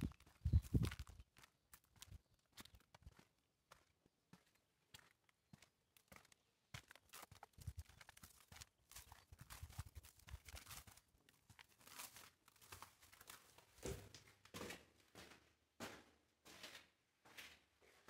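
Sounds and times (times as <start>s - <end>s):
footsteps scuffing along path: 0.0s - 18.0s.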